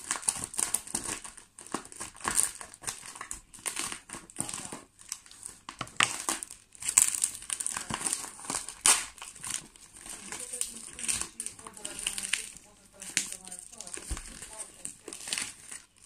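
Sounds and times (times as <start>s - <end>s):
packing paper rustling and crinkling: 0.0s - 16.0s.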